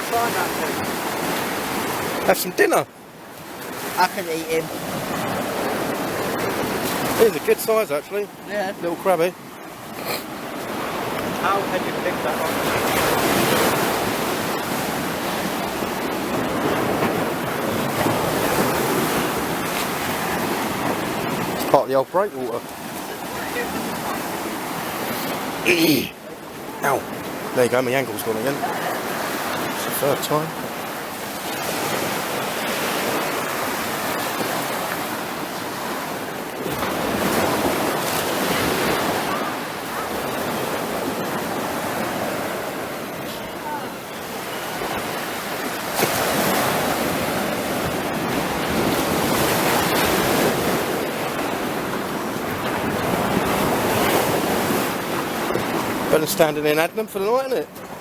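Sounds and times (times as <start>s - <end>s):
sea surf washing on beach: 0.0s - 58.0s.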